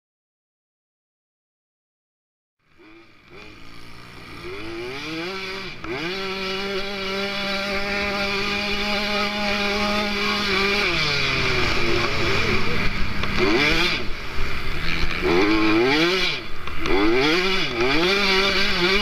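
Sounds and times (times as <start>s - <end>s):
motocross bike engine revving: 2.6s - 19.0s.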